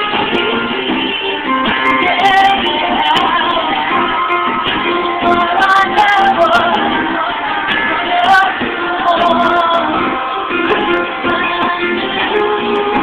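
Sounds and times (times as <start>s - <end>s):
live instrumental accompaniment: 0.0s - 13.0s
woman singing: 0.0s - 13.0s.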